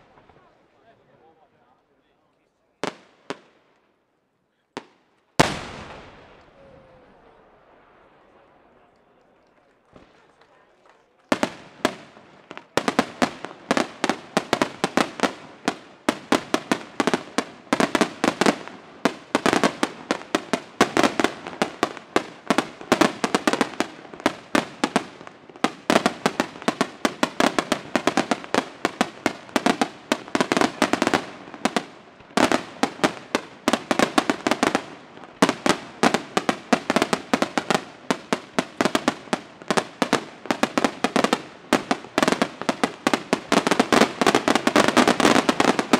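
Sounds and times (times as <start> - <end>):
fireworks bursting with sharp bangs: 0.0 - 1.5, 2.7 - 4.0, 4.6 - 45.9.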